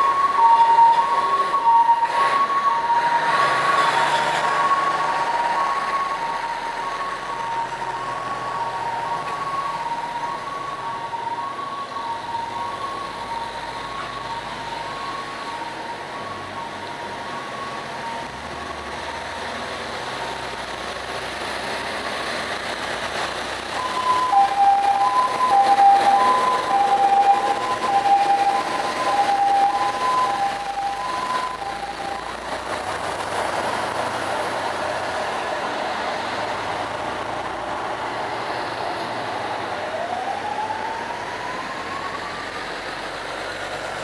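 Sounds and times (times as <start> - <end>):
diesel truck engines rumbling: 0.0 - 44.0
two-tone fire engine sirens: 0.0 - 44.0.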